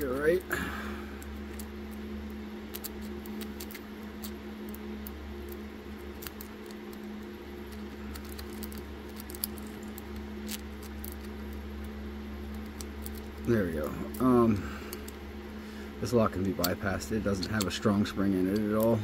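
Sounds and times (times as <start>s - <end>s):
steady low hum: 0.0s - 19.0s
metallic clicks and scratches in lock: 2.7s - 15.2s, 16.3s - 19.0s.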